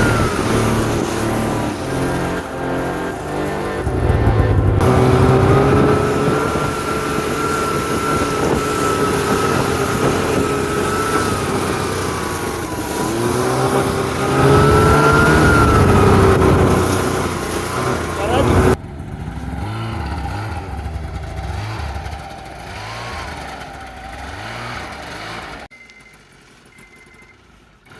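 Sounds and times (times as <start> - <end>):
snowmobile engine whine: 0.0 - 25.7.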